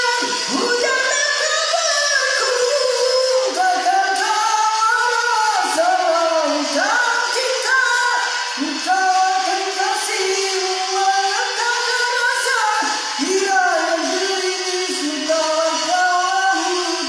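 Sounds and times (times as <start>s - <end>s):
love song with singing: 0.0s - 17.0s.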